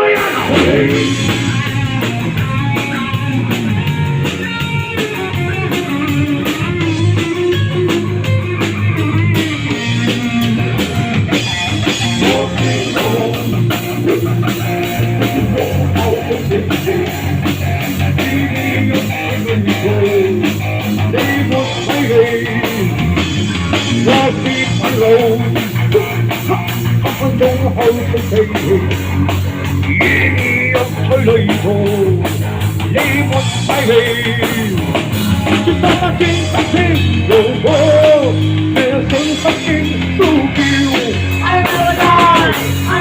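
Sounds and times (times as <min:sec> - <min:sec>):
bass guitar: 0:00.0 - 0:43.0
drum kit: 0:00.0 - 0:43.0
electric guitar: 0:00.0 - 0:43.0
rock band playing: 0:00.0 - 0:43.0.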